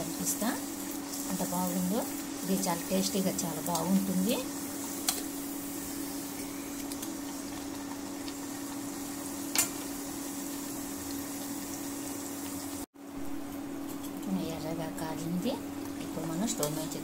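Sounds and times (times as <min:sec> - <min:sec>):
deep-frying sizzle: 0:00.0 - 0:14.6.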